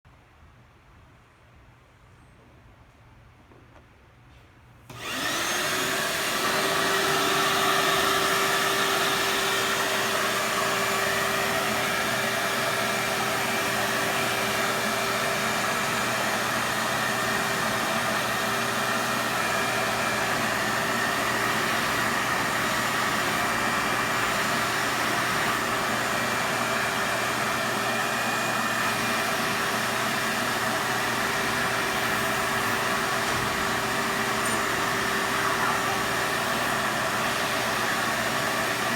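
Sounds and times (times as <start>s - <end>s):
vacuum cleaner motor whining: 4.9s - 38.9s.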